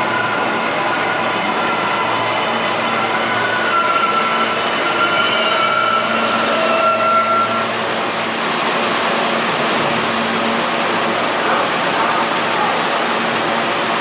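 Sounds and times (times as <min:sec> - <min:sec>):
subway train wheels rumbling: 0:00.0 - 0:14.0.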